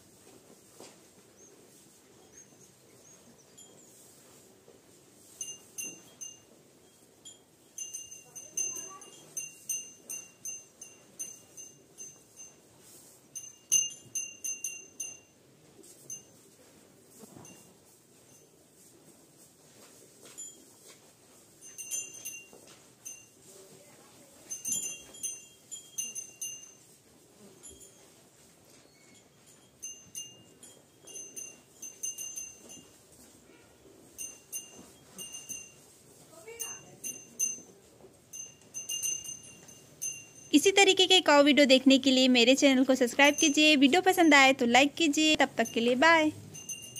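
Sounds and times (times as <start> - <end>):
faint rustle: 0.0 - 46.9
cow bell clinking: 2.1 - 18.9, 20.2 - 23.5, 24.1 - 46.9.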